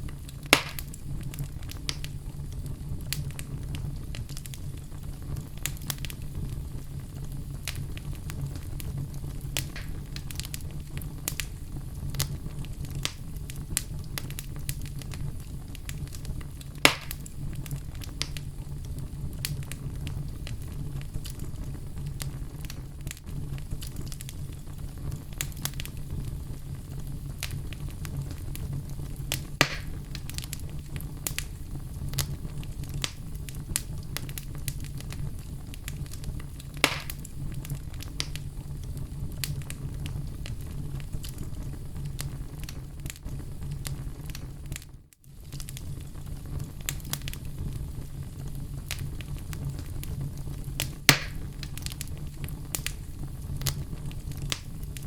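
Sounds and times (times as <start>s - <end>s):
logs burning with crackles and pops: 0.0s - 55.0s.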